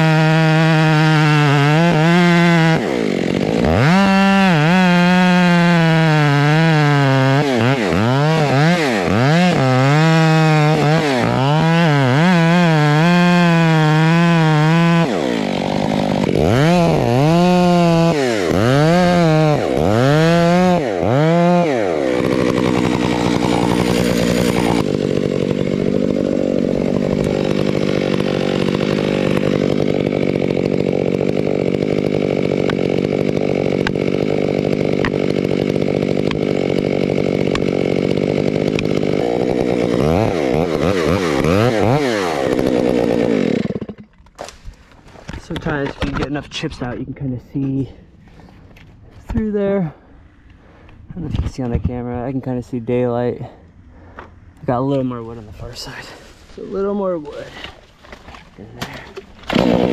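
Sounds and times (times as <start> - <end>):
chainsaw cutting wood: 0.0 - 46.4, 55.0 - 59.9.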